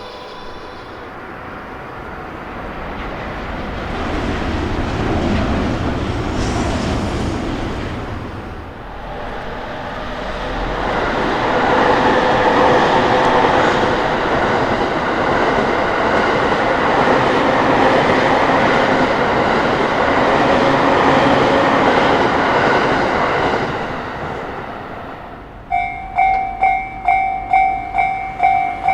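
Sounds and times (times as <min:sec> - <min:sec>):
electric train passing: 0:00.0 - 0:28.9.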